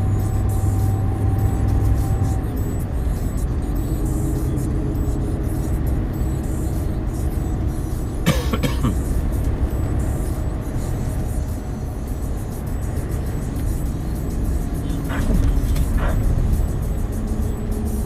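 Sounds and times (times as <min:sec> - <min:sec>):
diesel engine drone: 0:00.0 - 0:18.0
tyre and road noise: 0:00.0 - 0:18.0.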